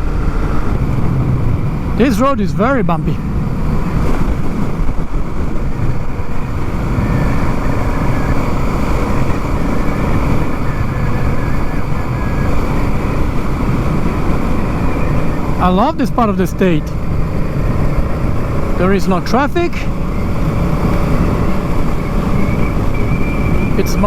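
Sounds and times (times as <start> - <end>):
motorcycle engine cruising: 0.0 - 24.0
wind noise on microphone: 0.0 - 24.0.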